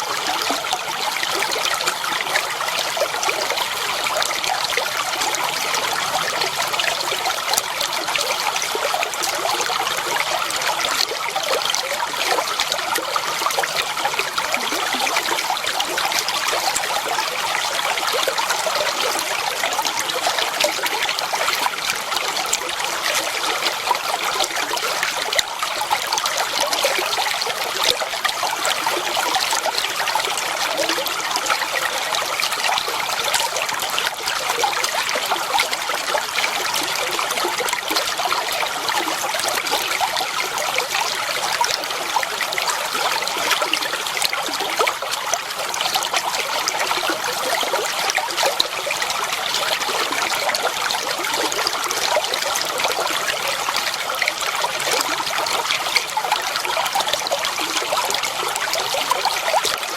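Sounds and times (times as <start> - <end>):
water flowing and trickling: 0.0 - 59.9.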